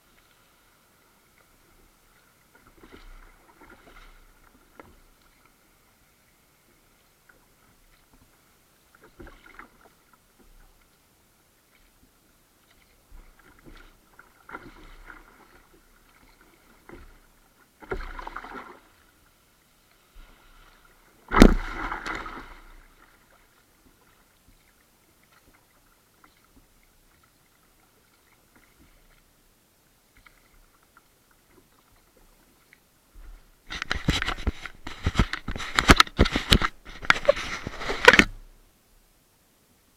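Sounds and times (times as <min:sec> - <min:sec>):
paddle splashing in water: 0:01.3 - 0:29.3, 0:30.1 - 0:38.4.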